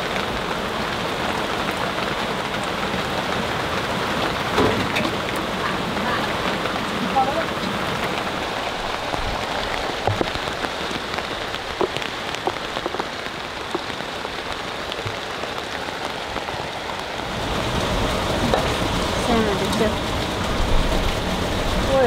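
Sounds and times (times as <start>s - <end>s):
raindrops ticking: 0.0s - 22.0s
steady rain hiss: 0.0s - 22.0s.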